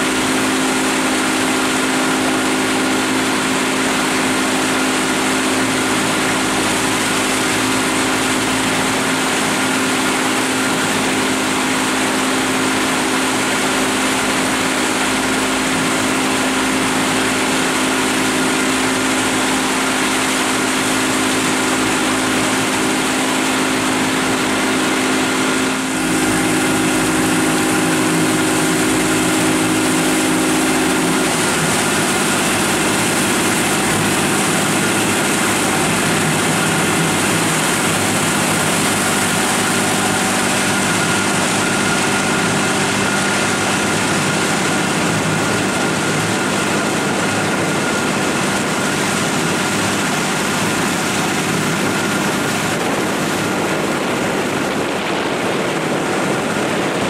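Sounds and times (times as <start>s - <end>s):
boat engine running: 0.0s - 57.0s
water rushing: 0.0s - 57.0s
wind: 0.0s - 57.0s.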